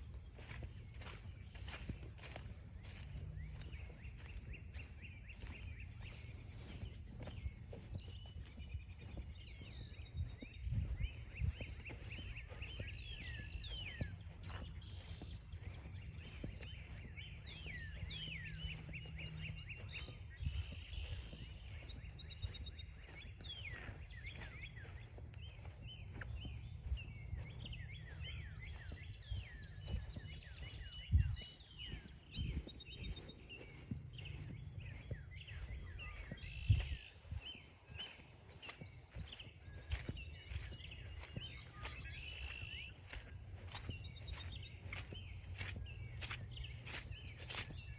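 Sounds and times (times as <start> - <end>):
birds chirping: 0.0 - 47.9
footsteps crunching on trail: 0.0 - 47.9.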